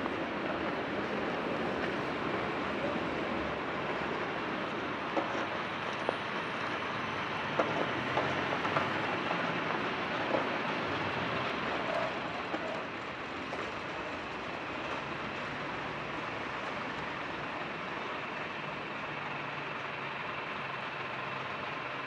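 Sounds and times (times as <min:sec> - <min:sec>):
city street traffic: 0:00.0 - 0:22.0
vehicle engine running low: 0:00.0 - 0:22.0.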